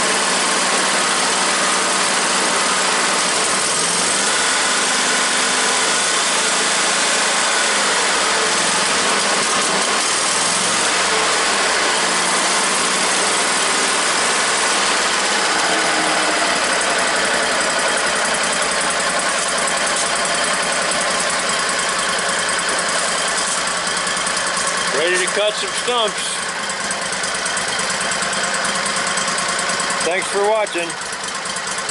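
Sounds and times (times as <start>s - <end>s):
small gasoline engine running: 0.0s - 31.9s.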